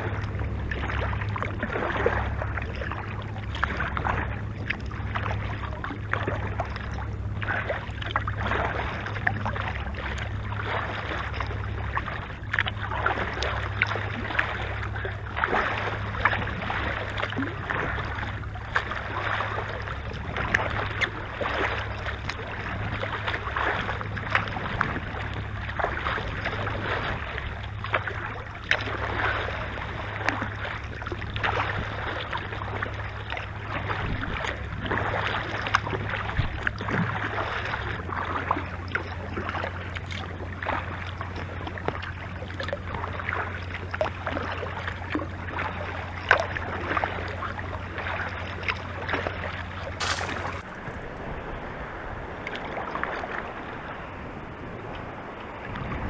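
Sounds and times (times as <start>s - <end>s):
steady low rumble: 0.0s - 56.0s
water splashing against kayak: 0.0s - 56.0s.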